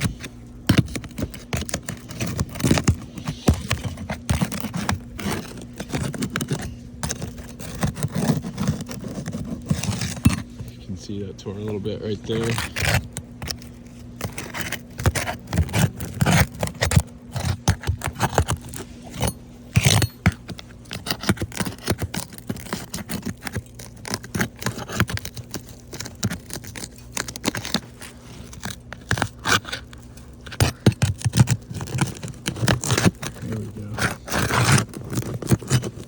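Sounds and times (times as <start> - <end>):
tool scraping roof shingle: 0.0 - 36.0.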